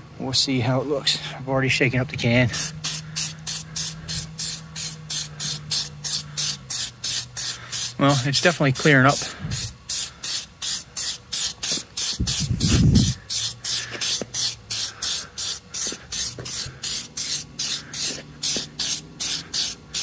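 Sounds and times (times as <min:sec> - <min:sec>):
aerosol spray hissing bursts: 0:02.5 - 0:20.0.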